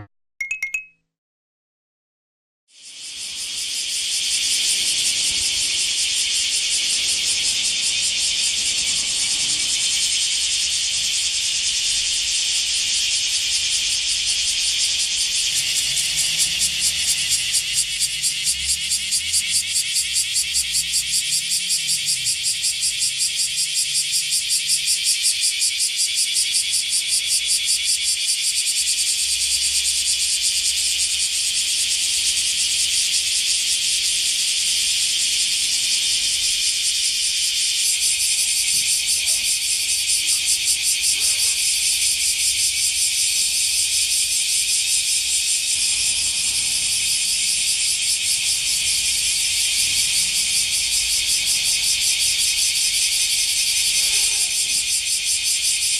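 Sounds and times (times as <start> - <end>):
cicada buzzing: 2.8 - 55.9.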